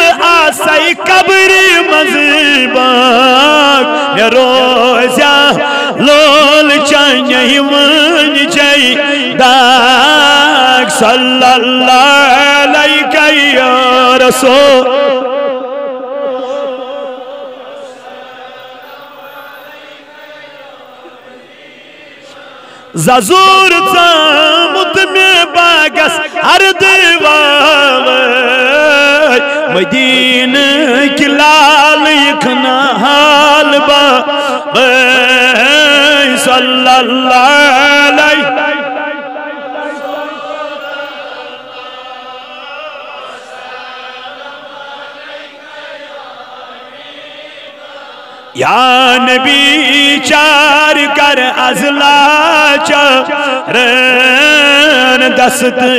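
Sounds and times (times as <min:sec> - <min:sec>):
man chanting: 0:00.0 - 0:55.9.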